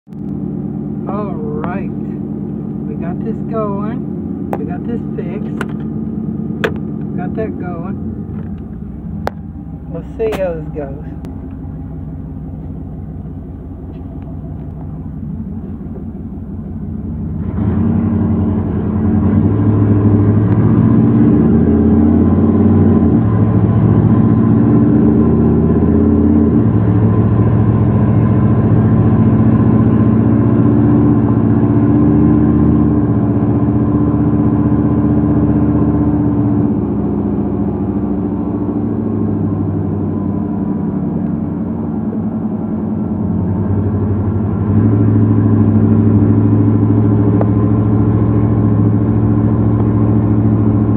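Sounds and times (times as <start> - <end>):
pickup truck engine running: 0.1 - 50.9.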